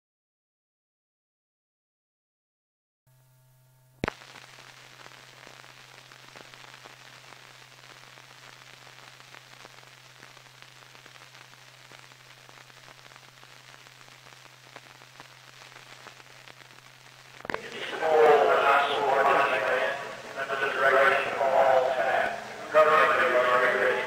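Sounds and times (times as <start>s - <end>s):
film soundtrack hiss and crackles: 3.2s - 24.0s.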